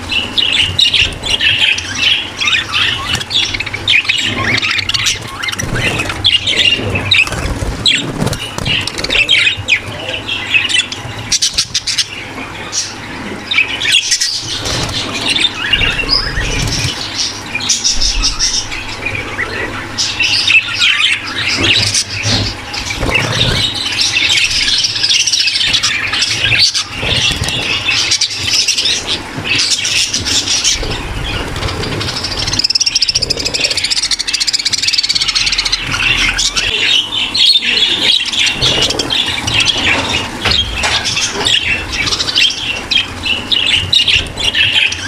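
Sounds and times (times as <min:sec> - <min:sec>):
budgerigars chattering and squawking: 0:00.0 - 0:45.0.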